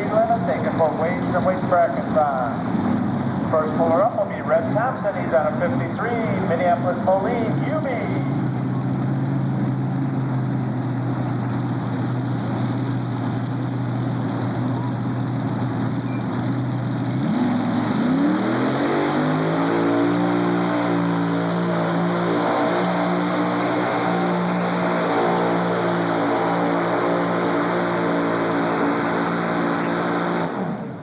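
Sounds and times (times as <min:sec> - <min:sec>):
tractor engines idling and revving: 0:00.0 - 0:31.0.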